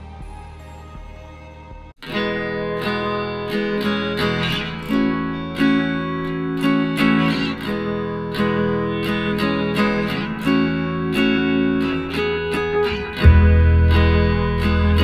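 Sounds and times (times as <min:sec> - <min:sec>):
guitar strumming and picking chords: 0:00.0 - 0:15.0.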